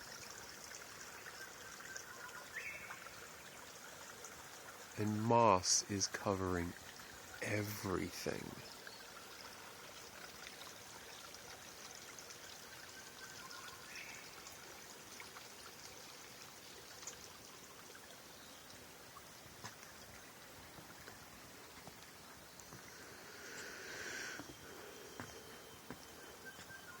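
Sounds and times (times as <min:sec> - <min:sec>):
stream trickling: 0:00.0 - 0:27.0.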